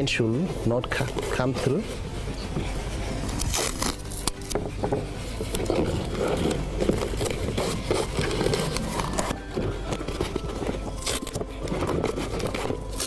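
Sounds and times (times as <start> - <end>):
masking tape scraping and crinkling: 0.0 - 13.0.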